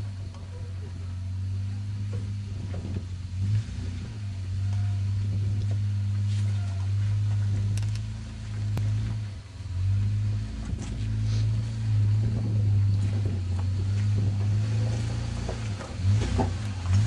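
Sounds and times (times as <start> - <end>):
truck engine at low revs: 0.0 - 17.0.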